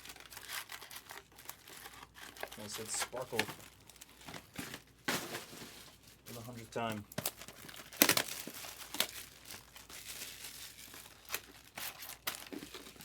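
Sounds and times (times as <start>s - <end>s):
foil wrappers crinkling and tearing: 0.0s - 13.0s.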